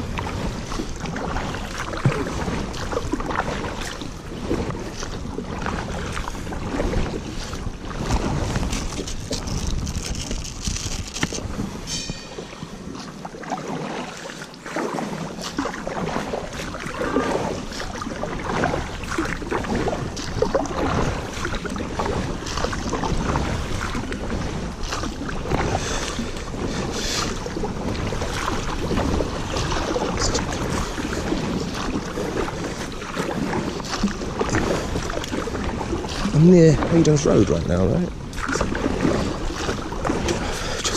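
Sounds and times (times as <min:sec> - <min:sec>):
water splashing around canoe: 0:00.0 - 0:40.9.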